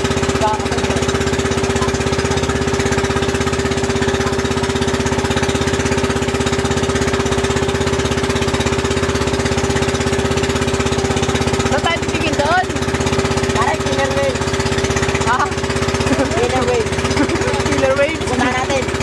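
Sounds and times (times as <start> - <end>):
boat engine pulsing: 0.0 - 19.0.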